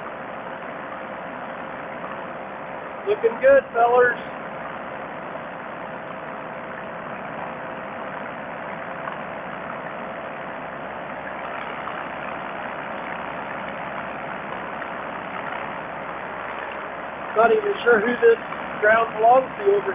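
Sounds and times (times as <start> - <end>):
paramotor engine droning: 0.0 - 19.9.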